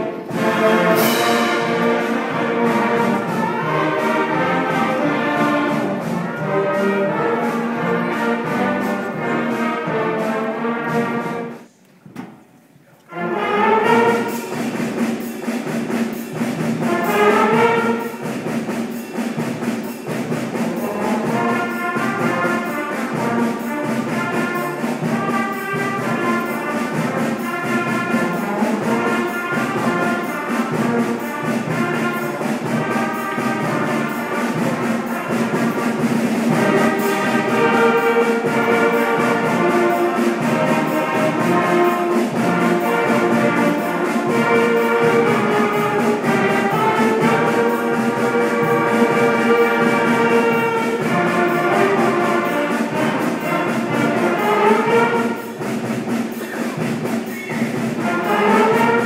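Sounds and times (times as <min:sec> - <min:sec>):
concert band playing: 0:00.0 - 0:11.8, 0:13.0 - 0:59.0.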